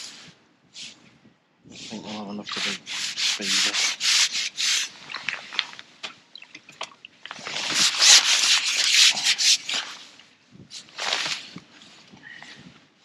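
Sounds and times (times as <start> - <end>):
rubbing and rustling strokes: 0.0 - 12.9.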